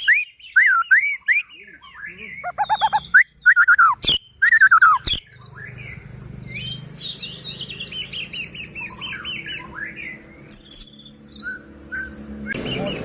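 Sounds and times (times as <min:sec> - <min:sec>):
bird singing whistled phrases: 0:00.0 - 0:13.0.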